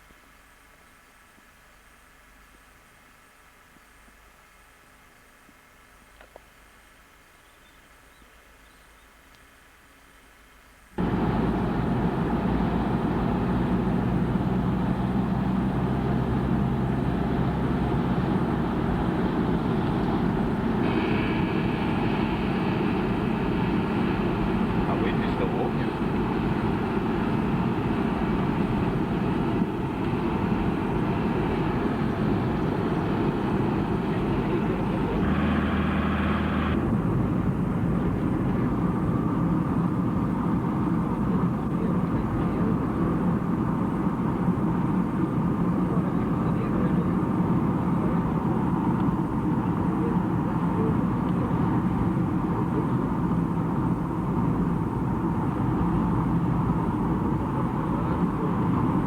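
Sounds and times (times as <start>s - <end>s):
vehicle engine and road noise: 11.0s - 59.0s.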